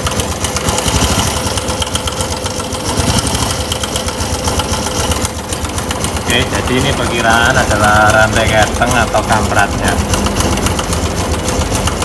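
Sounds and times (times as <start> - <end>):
motorcycle engine clattering: 0.0 - 12.0.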